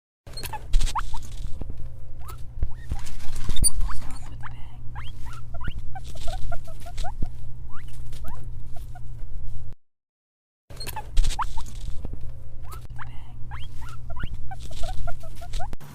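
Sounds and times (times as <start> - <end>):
guinea pig squeaking: 0.3 - 9.6, 10.7 - 15.9
rustling: 0.3 - 9.8, 10.7 - 15.9.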